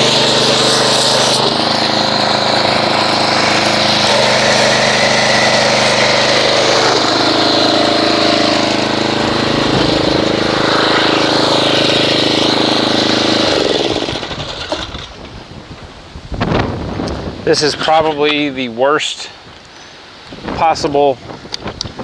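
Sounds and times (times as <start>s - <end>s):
pressure washer motor drone: 0.0s - 16.0s, 16.9s - 19.2s.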